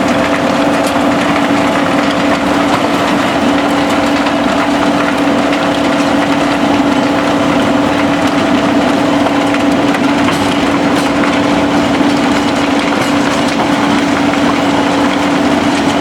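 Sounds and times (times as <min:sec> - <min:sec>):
crusher mechanical din: 0:00.0 - 0:16.0
diesel engine hum: 0:00.0 - 0:16.0
rubble clattering: 0:00.0 - 0:16.0.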